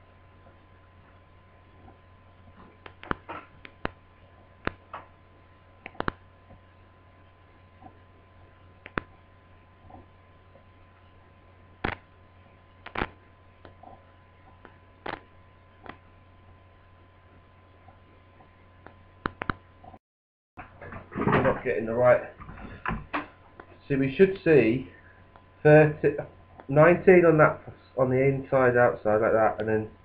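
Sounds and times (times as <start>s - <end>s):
steady electrical hum: 0.0s - 20.0s, 20.6s - 30.0s.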